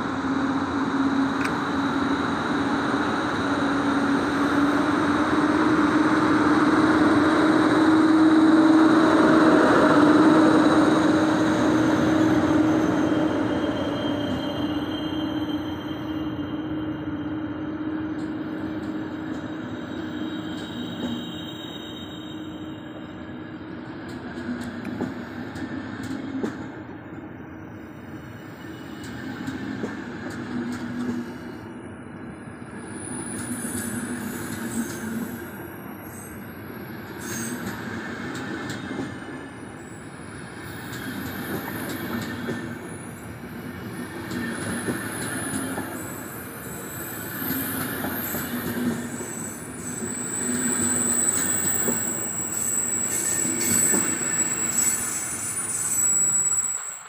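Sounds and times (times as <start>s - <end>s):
passenger train moving: 0.0s - 57.0s
train wheels squealing: 0.0s - 57.0s.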